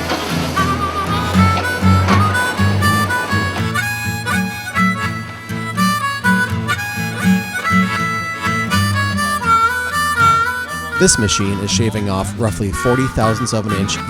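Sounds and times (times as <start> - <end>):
harmonica melody: 0.0 - 14.0
low beat: 0.0 - 14.0.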